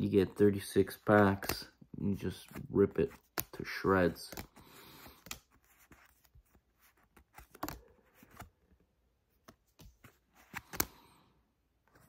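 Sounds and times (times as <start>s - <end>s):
cards sliding and clicking: 0.6s - 8.8s, 9.4s - 11.2s.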